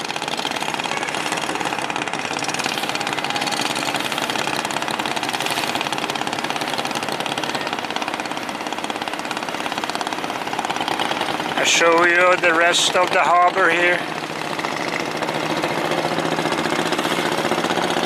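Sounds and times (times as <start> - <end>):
boat engine clattering: 0.0 - 18.0.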